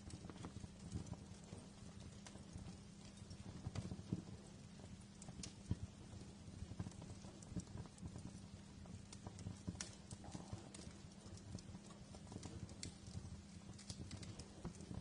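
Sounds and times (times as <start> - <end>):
low steady hum: 0.0 - 15.0
wood fire crackling: 0.0 - 15.0.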